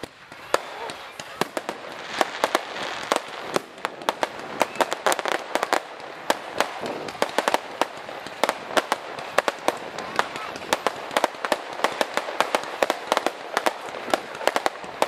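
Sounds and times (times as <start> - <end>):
continuous hiss: 0.0 - 15.0
fireworks bangs and pops: 0.0 - 15.0.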